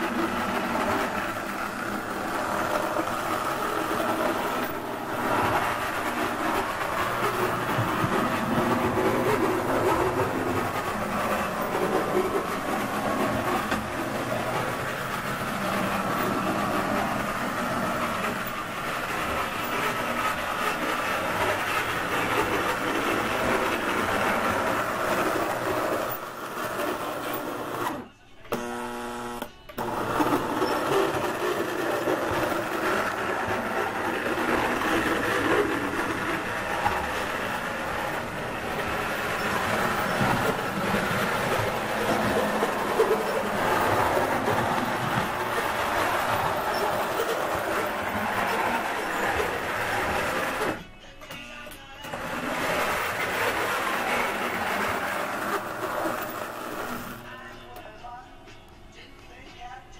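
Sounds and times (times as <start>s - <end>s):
wheels rattling on rails: 0.0s - 28.1s, 29.8s - 51.5s, 52.1s - 57.4s
toy train motor whirring: 0.0s - 50.9s, 52.1s - 57.4s.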